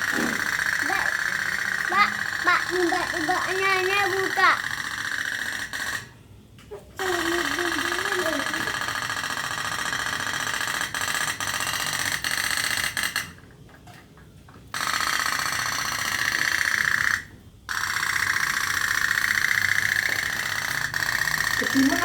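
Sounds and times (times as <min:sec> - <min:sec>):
toy steam boat engine buzzing: 0:00.0 - 0:13.6, 0:14.7 - 0:22.0.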